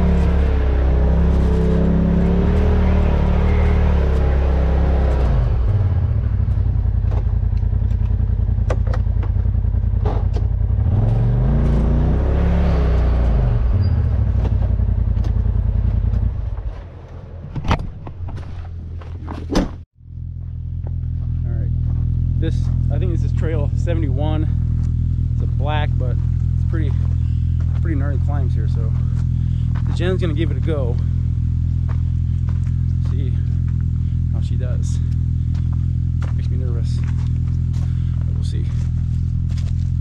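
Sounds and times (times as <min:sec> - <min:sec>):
off-road vehicle engine revving: 0:00.0 - 0:17.1, 0:20.2 - 0:40.0.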